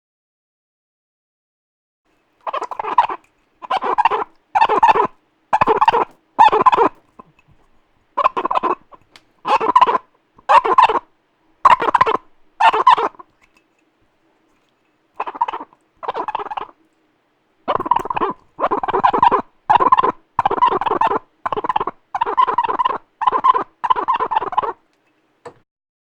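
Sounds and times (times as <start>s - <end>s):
cup squeaking when rubbed: 2.4s - 13.7s, 14.4s - 16.9s, 17.6s - 25.6s.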